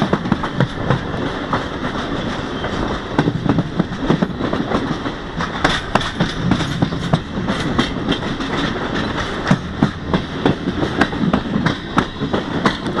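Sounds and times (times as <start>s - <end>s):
train running rumble: 0.0s - 13.0s
train wheels clacking over rail joints: 0.0s - 13.0s.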